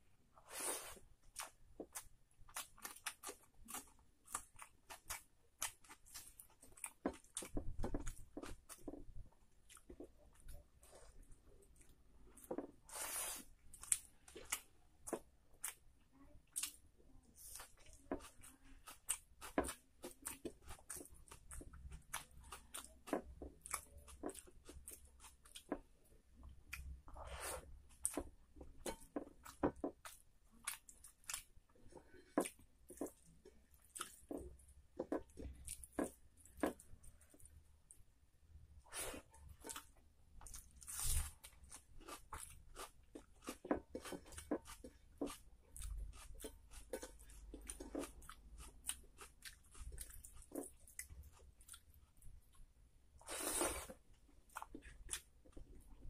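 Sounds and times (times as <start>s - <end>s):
fingers squishing food: 1.0s - 38.4s, 39.2s - 56.0s.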